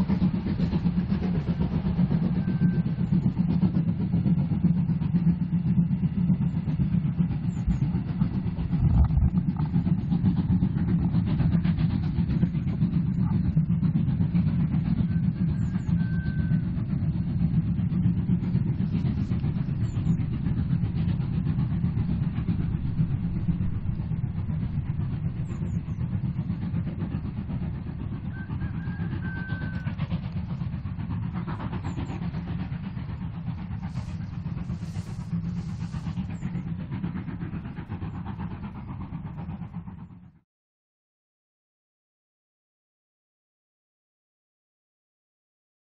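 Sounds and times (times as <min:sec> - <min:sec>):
steam train low rumble: 0:00.0 - 0:40.4.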